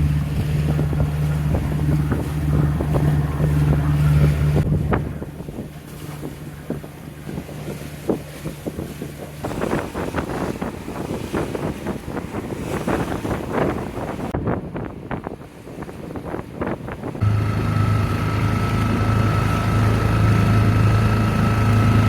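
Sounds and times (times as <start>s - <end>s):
boat engine running: 0.0s - 22.0s
water splashing against hull: 0.0s - 22.0s
wind buffeting microphone: 0.0s - 22.0s.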